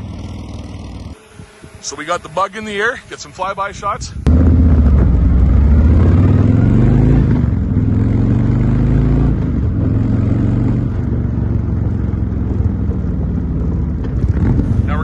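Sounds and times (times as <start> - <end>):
motorcycle engine: 0.0 - 1.9, 4.2 - 15.0.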